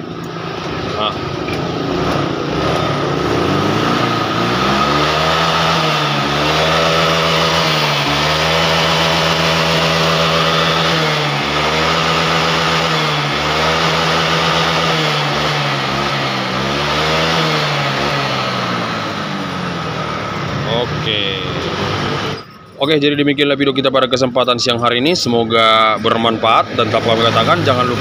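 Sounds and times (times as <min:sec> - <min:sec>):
scooter engine revving: 0:00.0 - 0:22.8, 0:24.9 - 0:28.0.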